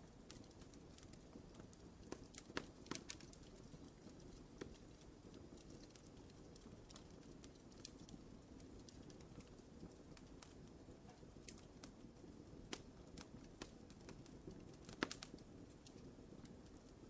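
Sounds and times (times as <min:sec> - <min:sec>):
soft fire rumble: 0:00.0 - 0:17.0
wood fire popping and snapping: 0:00.0 - 0:17.0.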